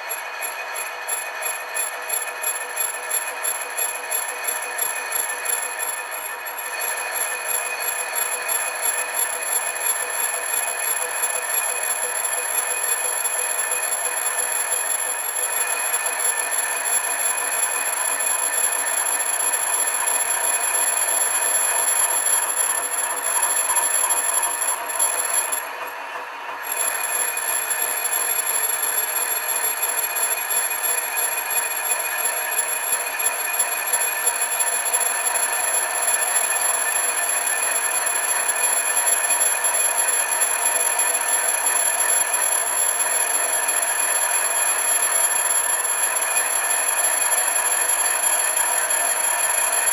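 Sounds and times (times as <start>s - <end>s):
milling machine cutting metal: 0.0s - 49.9s.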